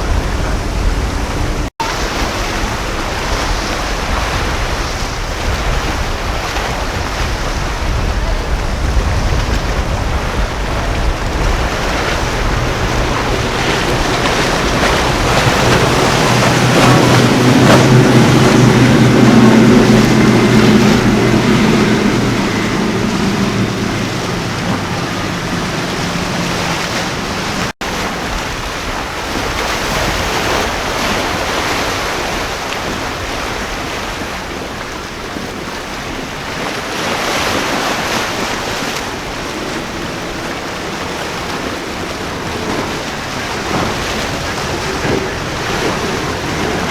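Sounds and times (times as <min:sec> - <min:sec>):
motorboat engines droning: 0:00.0 - 0:46.9
surf: 0:00.0 - 0:46.9
wind buffeting microphone: 0:00.0 - 0:46.9.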